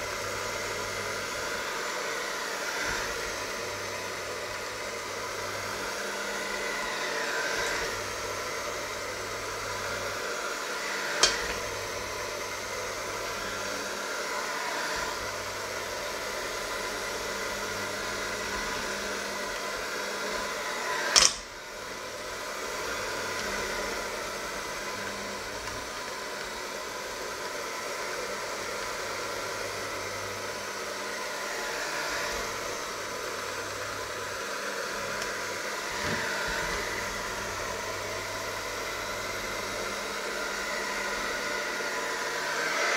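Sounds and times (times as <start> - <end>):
electric hand mixer running: 0.0 - 42.9.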